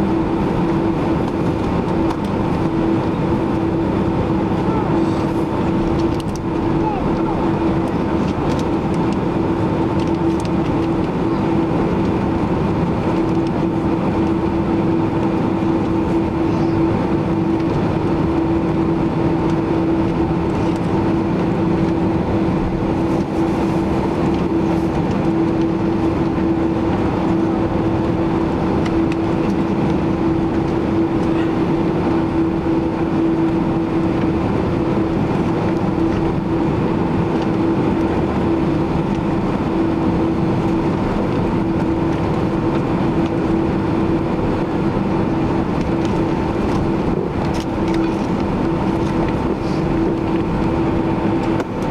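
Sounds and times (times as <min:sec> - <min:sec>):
airplane cabin rushing noise: 0:00.0 - 0:51.9
jet engines droning: 0:00.0 - 0:51.9.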